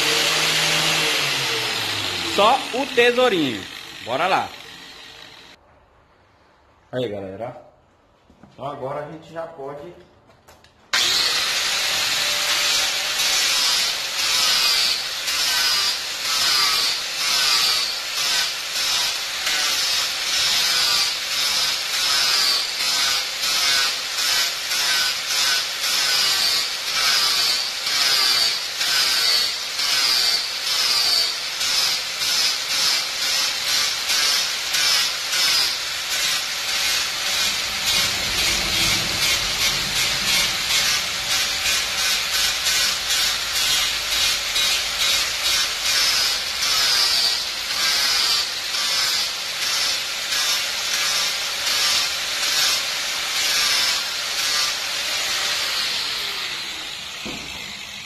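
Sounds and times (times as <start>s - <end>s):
angle grinder sanding wood: 0.0s - 5.6s, 11.0s - 58.0s.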